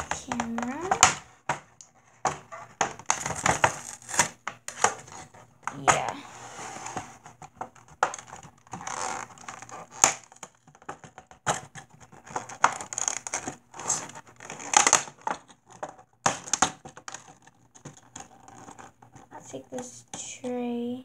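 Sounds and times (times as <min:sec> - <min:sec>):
plastic packaging crackling: 0:00.0 - 0:20.3.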